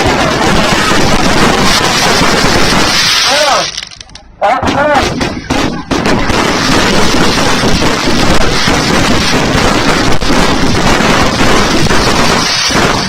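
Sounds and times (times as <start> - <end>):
fireworks and firecrackers banging: 0.0 - 13.0.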